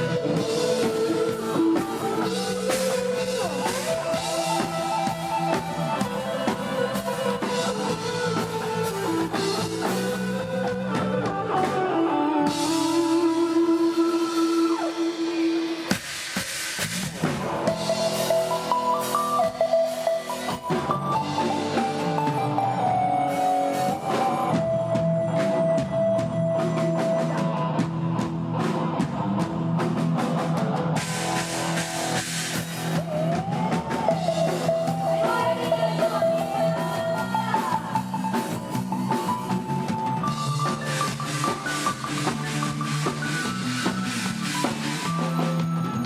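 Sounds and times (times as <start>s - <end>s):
sustained melody lines: 0.0s - 15.7s, 17.5s - 28.2s, 31.5s - 46.0s
drum kit beat: 0.0s - 46.0s.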